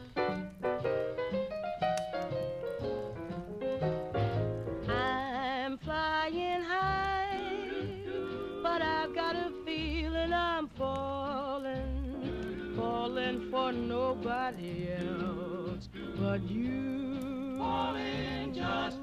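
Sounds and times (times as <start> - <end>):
slow jazz recording: 0.0 - 19.0.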